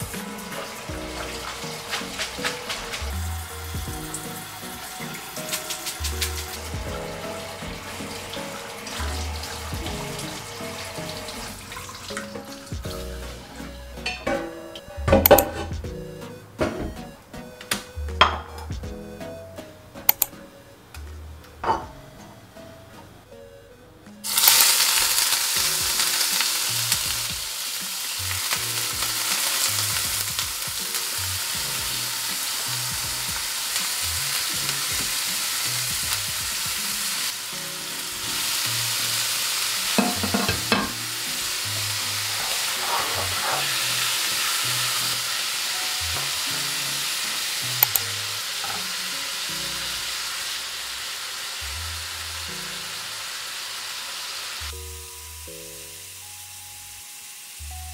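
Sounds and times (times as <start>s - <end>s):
food sizzling in hot oil: 0.0s - 14.3s, 24.2s - 57.9s.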